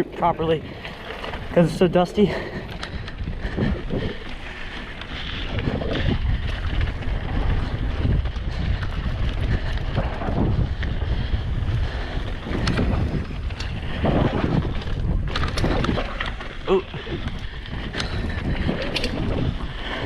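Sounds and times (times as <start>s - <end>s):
bike clicks and rattles: 0.0s - 20.0s
bike tyres rumbling on dirt: 0.0s - 20.0s
wind buffeting microphone: 0.0s - 20.0s.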